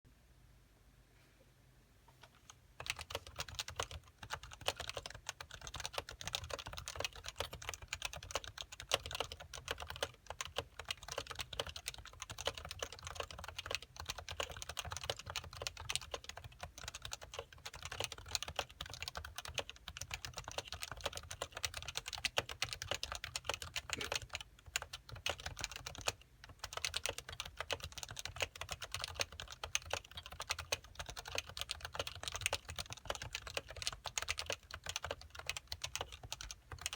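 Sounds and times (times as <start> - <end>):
keyboard typing: 2.2 - 36.9.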